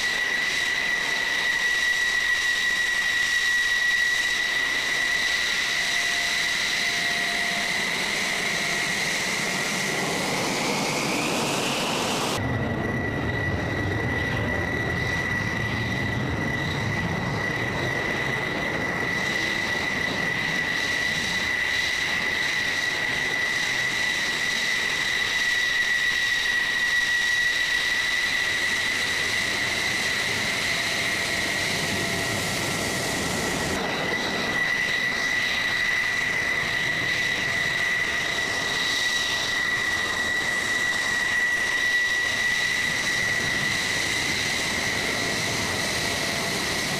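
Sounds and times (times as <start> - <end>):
jet engine turbine whine: 0.0 - 46.9.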